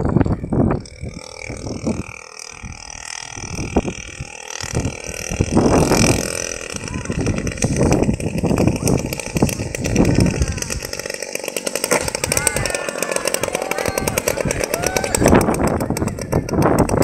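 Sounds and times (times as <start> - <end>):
model plane engine running unevenly: 0.0 - 17.0.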